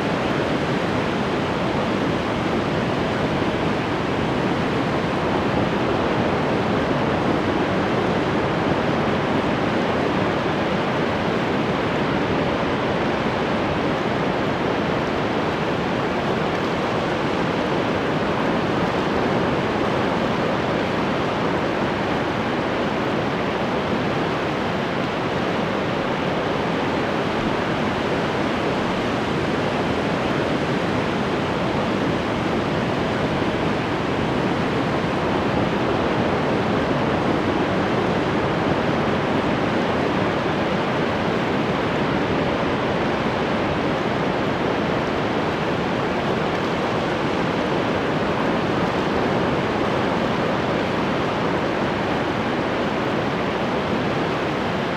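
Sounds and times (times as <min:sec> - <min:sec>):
ocean waves washing on shore: 0:00.0 - 0:54.9.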